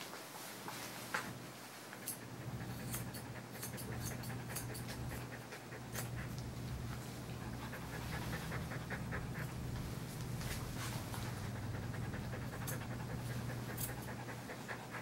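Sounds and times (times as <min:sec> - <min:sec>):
dog panting: 0:01.9 - 0:15.0
low steady hum: 0:02.0 - 0:15.0.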